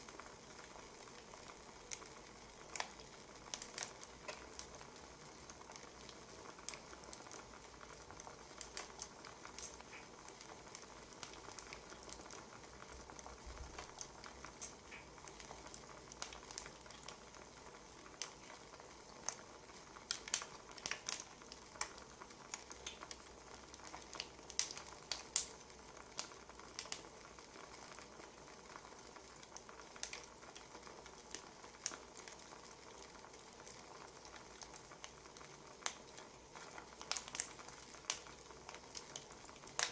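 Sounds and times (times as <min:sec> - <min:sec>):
steady low hiss: 0:00.0 - 0:39.9
wood fire crackling and popping: 0:00.0 - 0:39.9.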